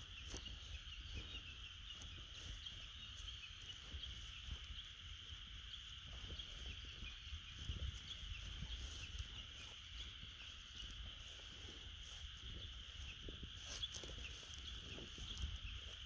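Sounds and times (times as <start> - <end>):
chorus of animal calls: 0.0 - 16.0.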